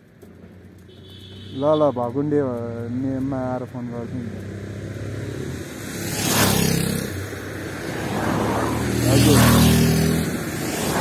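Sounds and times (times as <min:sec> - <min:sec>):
vehicles rushing past: 0:00.0 - 0:11.0.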